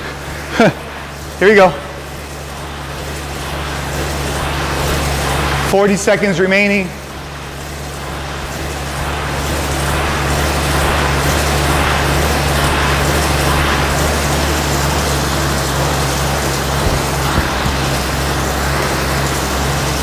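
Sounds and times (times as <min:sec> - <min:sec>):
air bike fan whooshing: 0:00.0 - 0:20.0.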